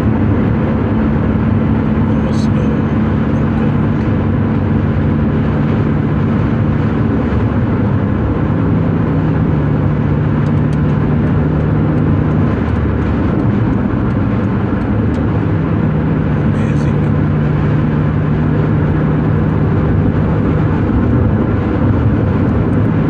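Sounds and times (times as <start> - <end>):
low car engine hum: 0.0 - 23.0
tyre rumble on highway: 0.0 - 23.0.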